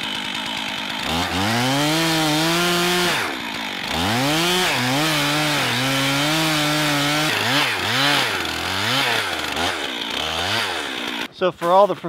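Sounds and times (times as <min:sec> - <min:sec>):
chainsaw cutting log: 0:00.0 - 0:12.0.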